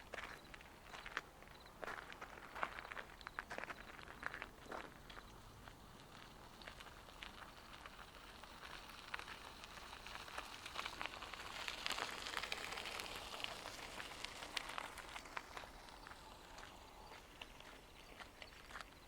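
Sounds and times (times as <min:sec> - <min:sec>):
footsteps on gravel: 0:00.0 - 0:19.0.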